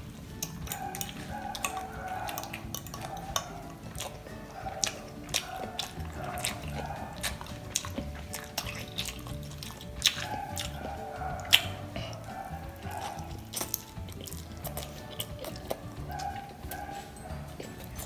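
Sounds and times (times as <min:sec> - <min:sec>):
soft background music: 0:00.0 - 0:18.0
wet chewing mouth sounds: 0:00.0 - 0:18.0.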